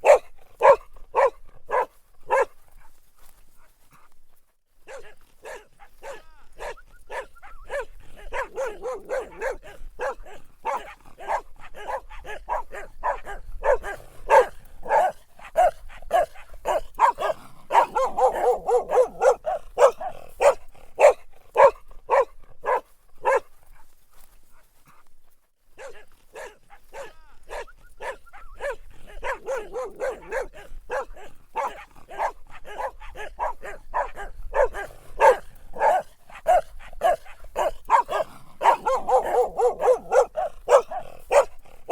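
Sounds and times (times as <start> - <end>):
dog barking: 0.0 - 3.0, 4.8 - 23.9, 25.8 - 41.9.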